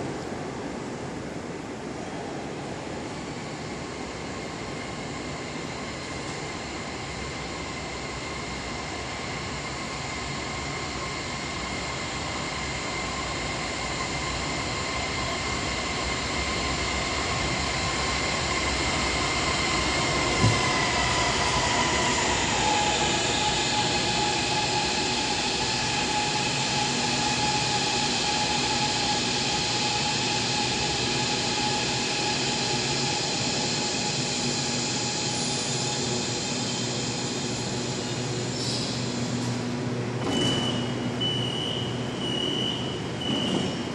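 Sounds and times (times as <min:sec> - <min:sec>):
train motor whine: 0:03.9 - 0:39.6, 0:40.2 - 0:43.9.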